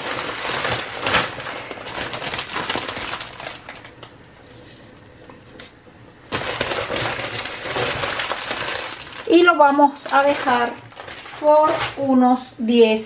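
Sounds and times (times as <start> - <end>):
dry noodles crackling: 0.0 - 4.5, 6.2 - 12.3.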